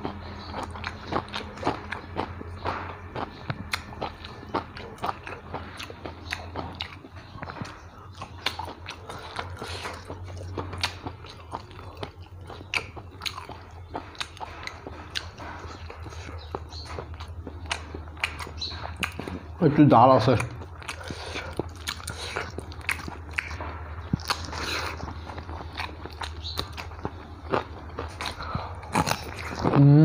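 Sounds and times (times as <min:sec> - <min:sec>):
man chewing food: 0:00.0 - 0:30.0
steady low hum: 0:00.0 - 0:30.0.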